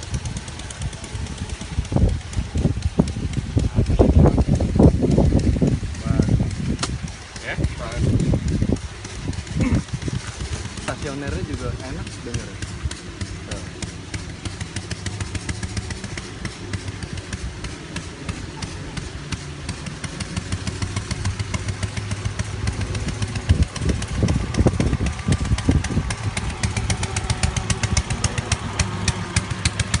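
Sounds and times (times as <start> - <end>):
boat engine idling: 0.0 - 30.0.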